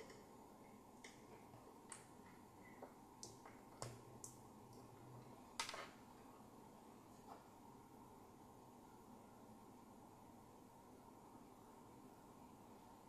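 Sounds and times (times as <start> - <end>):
faint fan hiss: 0.0 - 13.0.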